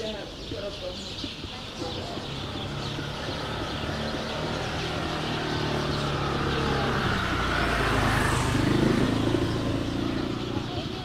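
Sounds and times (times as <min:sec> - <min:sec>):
vehicle engine approaching: 0:01.3 - 0:11.0.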